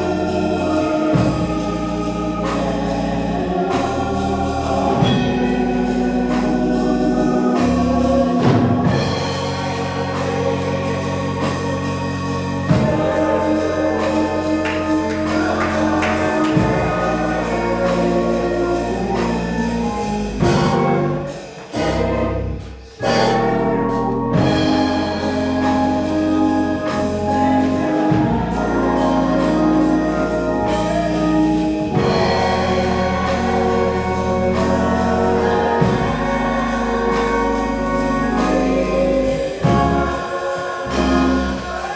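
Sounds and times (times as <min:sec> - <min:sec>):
gospel music: 0:00.0 - 0:41.9
organ playing held chords: 0:00.0 - 0:41.9
steady bass line: 0:00.0 - 0:41.9.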